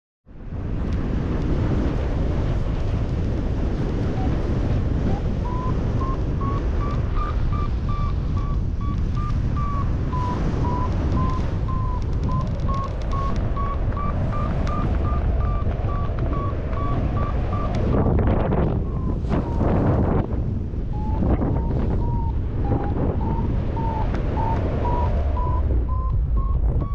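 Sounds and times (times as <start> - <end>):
strong wind on microphone: 0.3 - 26.9
variometer beeping: 4.0 - 26.9.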